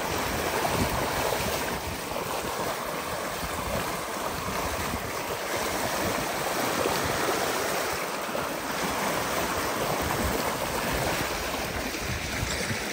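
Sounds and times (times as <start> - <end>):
water rushing along boat hull: 0.0 - 12.9.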